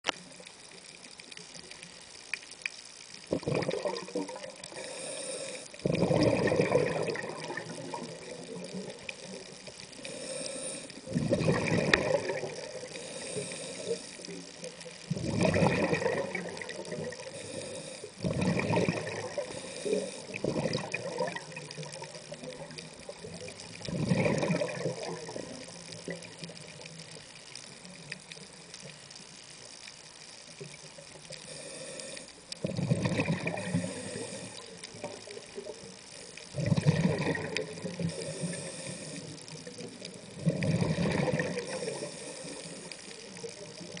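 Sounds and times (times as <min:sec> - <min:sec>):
exhaled breath bubbling underwater: 0:03.3 - 0:26.8, 0:31.2 - 0:44.0.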